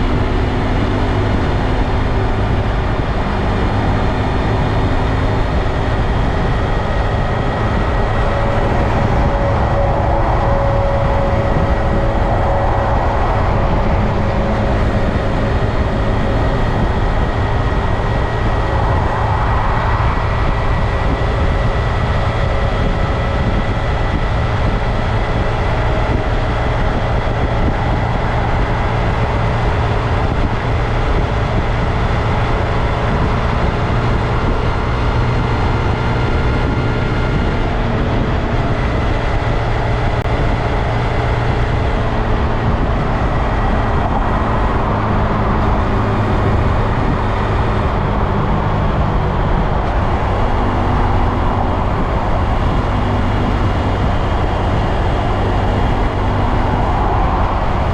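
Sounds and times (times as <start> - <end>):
dense rushing noise: 0.0 - 57.9
motorcycle engine running: 0.0 - 57.9.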